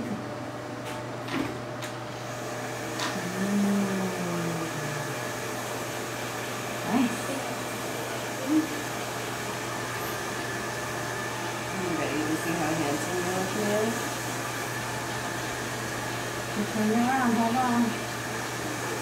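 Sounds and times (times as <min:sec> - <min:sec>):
hair dryer blowing: 0:02.0 - 0:19.0.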